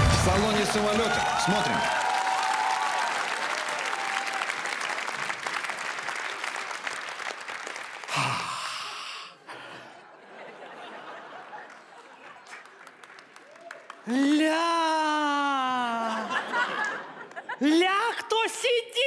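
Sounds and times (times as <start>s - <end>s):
audience applauding: 0.0s - 9.1s, 10.6s - 17.6s.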